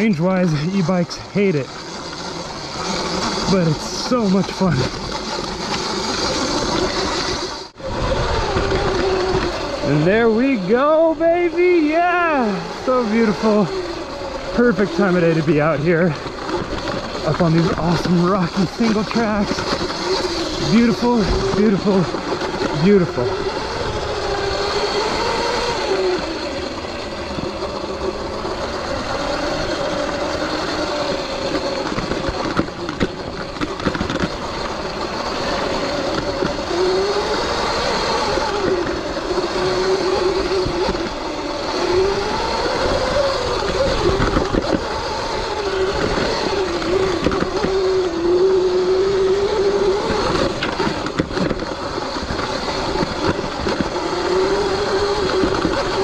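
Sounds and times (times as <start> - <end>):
bike knocking and rattling: 0.0 - 56.0
electric motor whine: 0.0 - 56.0
rushing trail noise: 0.0 - 56.0.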